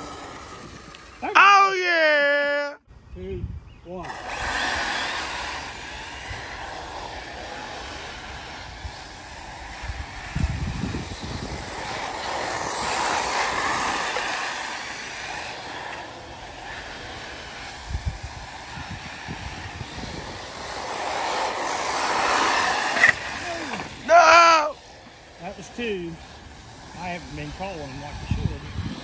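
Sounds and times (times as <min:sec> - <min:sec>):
electric toy car motors whirring: 0:00.0 - 0:01.8, 0:04.0 - 0:29.0
tyres on dirt: 0:00.0 - 0:02.6, 0:03.9 - 0:29.0.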